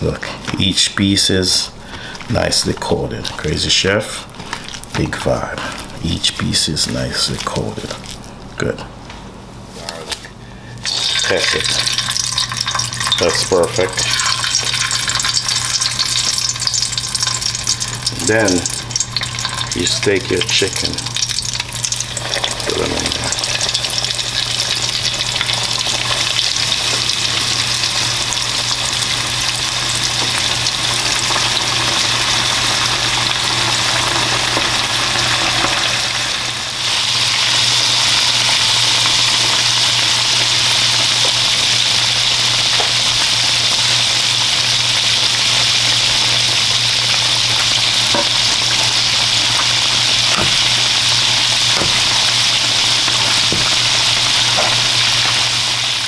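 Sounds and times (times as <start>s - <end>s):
chicken deep-frying in oil: 10.8s - 56.0s.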